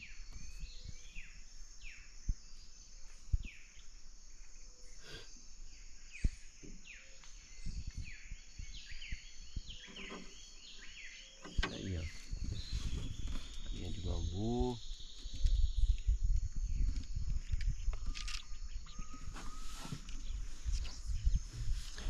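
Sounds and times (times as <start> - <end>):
birds calling: 0.0 - 22.0
high insect hiss: 0.0 - 22.0.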